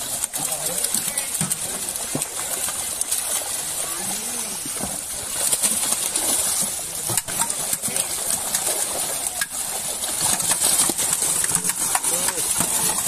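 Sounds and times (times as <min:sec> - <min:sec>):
fish thrashing and splashing: 0:00.0 - 0:13.0.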